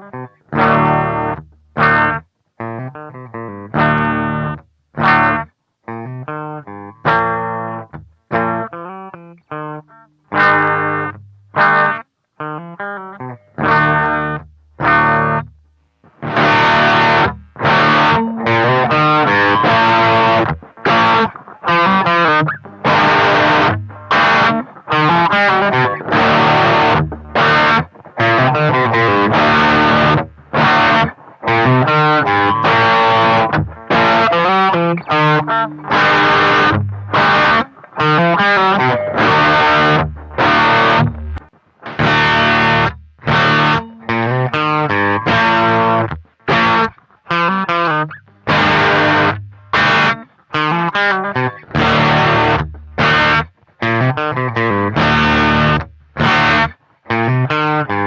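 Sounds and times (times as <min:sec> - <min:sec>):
distorted electric guitar chords: 0:00.0 - 0:58.0.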